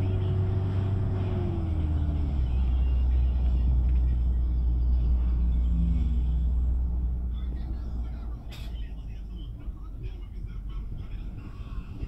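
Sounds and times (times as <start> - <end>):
minibus engine and road rumble: 0.0 - 12.0
steady engine whine: 0.0 - 12.0.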